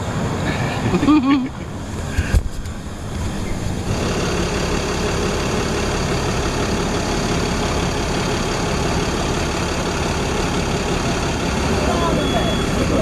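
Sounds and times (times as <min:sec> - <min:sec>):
bus engine idling: 0:00.0 - 0:13.0
faint engine whine: 0:00.0 - 0:13.0.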